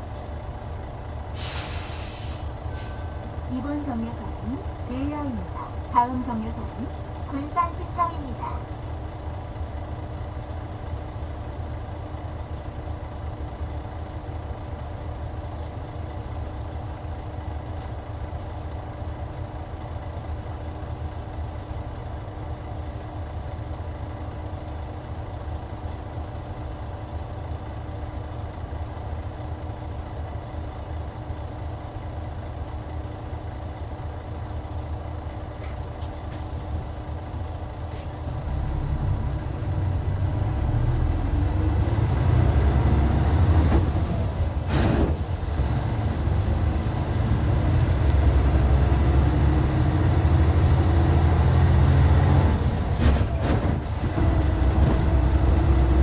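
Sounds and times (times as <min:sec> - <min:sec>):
diesel coach engine running: 0:00.0 - 0:56.0.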